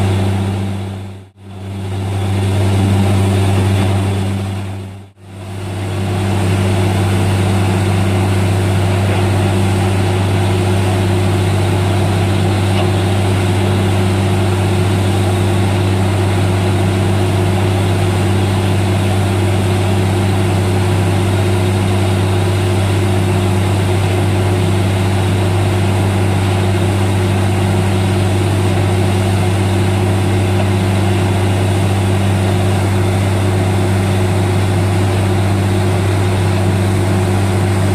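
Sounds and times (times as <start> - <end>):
drilling rig hum: 0.0 - 37.9.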